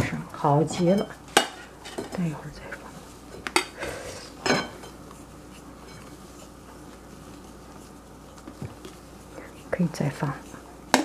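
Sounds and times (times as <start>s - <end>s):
spatula stirring in bowl: 0.3s - 11.0s.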